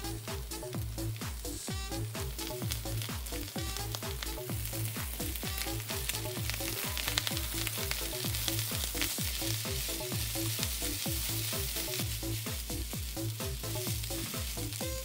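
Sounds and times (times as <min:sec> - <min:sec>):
electronic beat music: 0:00.0 - 0:15.0
rice sizzling in a skillet: 0:00.0 - 0:15.0.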